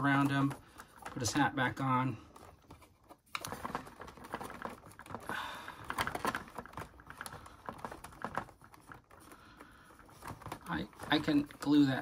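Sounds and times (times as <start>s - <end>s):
hard plastic clicking and tapping: 0.1s - 12.0s.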